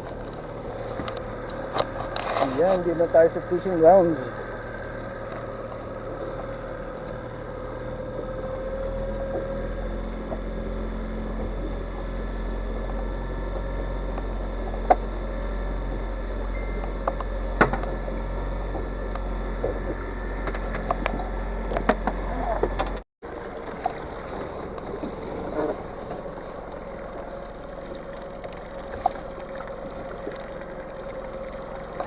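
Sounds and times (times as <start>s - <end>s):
boat motor running: 0.0s - 32.0s
water and hull noise: 0.0s - 32.0s.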